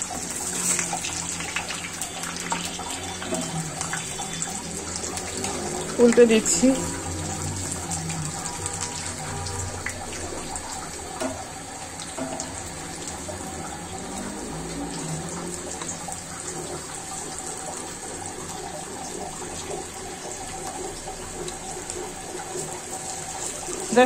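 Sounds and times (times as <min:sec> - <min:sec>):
frying in hot oil: 0:00.0 - 0:24.0.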